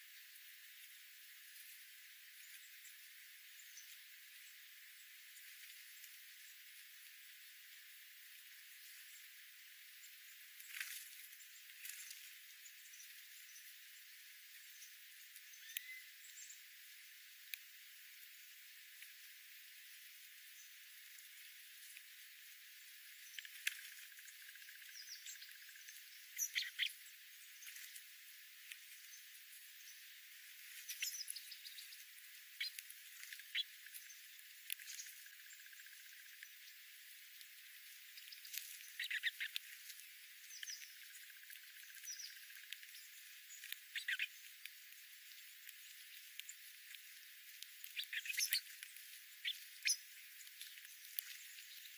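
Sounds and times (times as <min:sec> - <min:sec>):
small birds chirping: 0:00.0 - 0:51.9
steady hiss: 0:00.0 - 0:51.9.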